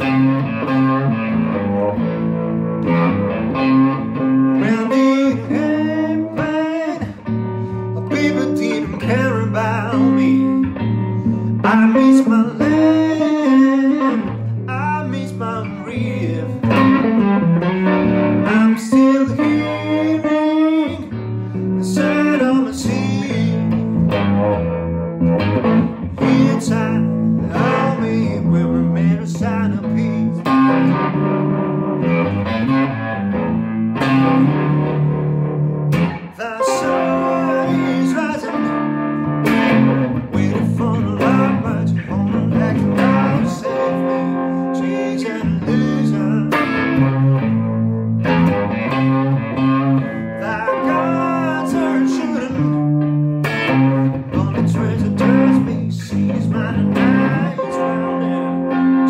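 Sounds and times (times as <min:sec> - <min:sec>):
electric guitar lead line: 0:00.0 - 0:59.0.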